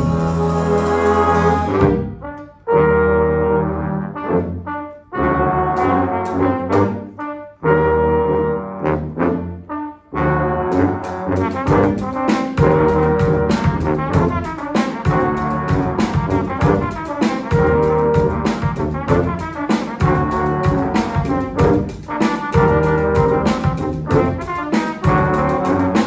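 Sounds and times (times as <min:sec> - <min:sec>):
low brass choir playing: 0:00.0 - 0:26.0.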